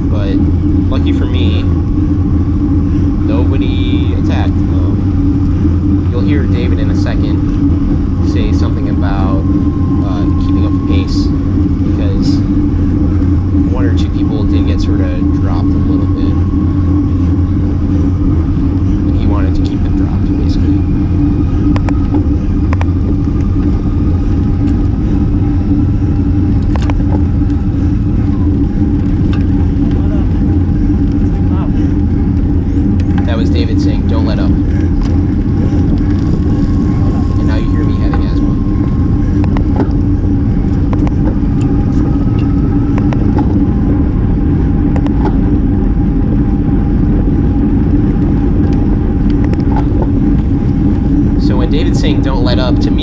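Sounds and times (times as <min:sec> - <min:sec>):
low hum: 0:00.0 - 0:53.0
wind rumble on microphone: 0:00.0 - 0:53.0.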